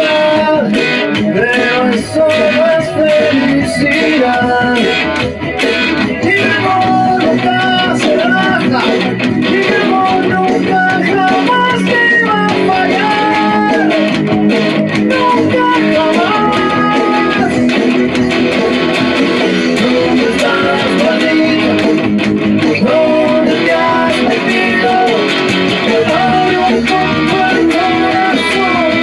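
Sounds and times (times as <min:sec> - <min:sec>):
sliding lead guitar melody: 0:00.0 - 0:29.0
strummed guitar: 0:00.0 - 0:29.0.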